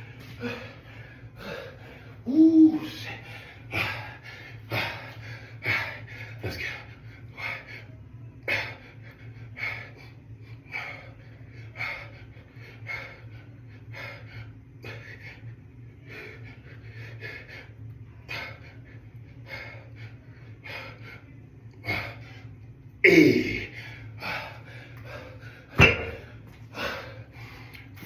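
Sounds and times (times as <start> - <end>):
man breathing heavily: 0.0 - 28.0
steady low hum: 0.0 - 28.0.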